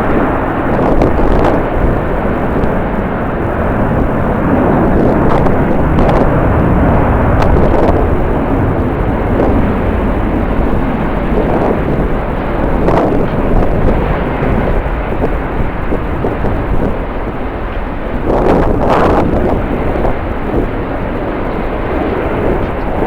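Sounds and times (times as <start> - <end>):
jet airliner engines: 0.0 - 23.0
strong wind buffeting microphone: 0.0 - 23.0.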